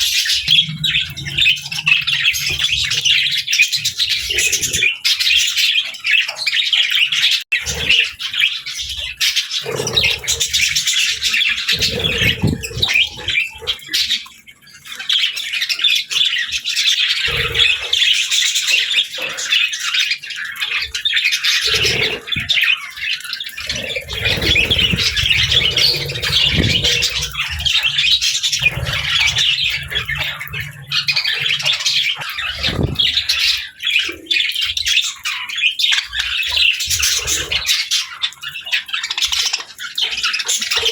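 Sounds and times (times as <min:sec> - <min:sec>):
birds chattering: 0:00.0 - 0:40.9.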